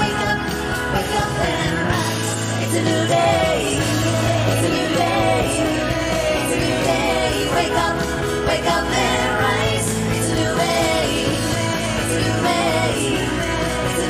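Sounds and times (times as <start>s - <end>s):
pop band backing: 0.0s - 14.0s
steady bass line: 0.0s - 14.0s
women singing: 0.0s - 14.0s.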